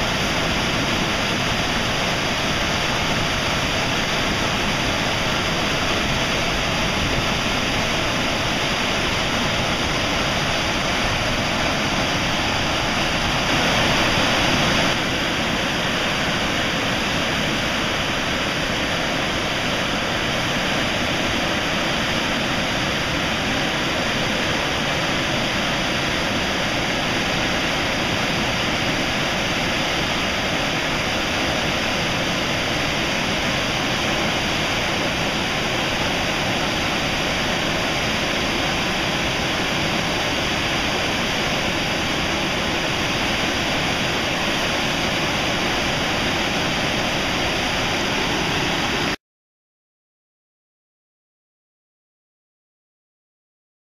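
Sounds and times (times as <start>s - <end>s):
waterfall rushing into rapids: 0.0s - 49.2s.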